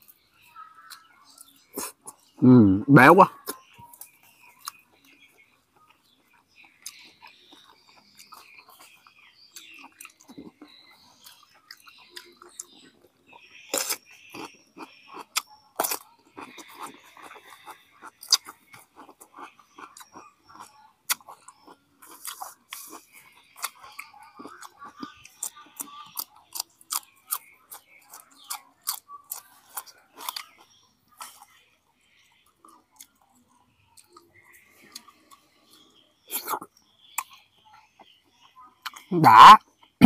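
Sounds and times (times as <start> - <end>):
man chewing and crunching food: 0.0 - 2.5, 3.2 - 40.0.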